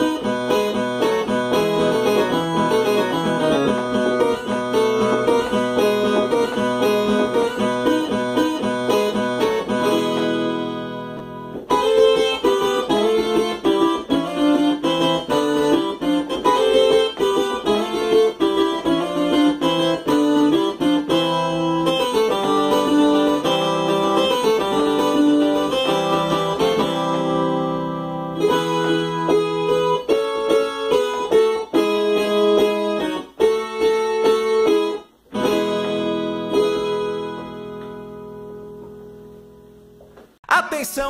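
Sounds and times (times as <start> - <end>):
plucked string notes and chords: 0.0 - 40.3.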